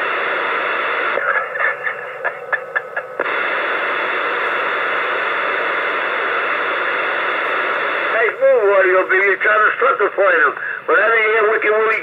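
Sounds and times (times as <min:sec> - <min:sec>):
choppy radio transmission: 0:00.0 - 0:12.0
radio static hiss: 0:00.0 - 0:12.0.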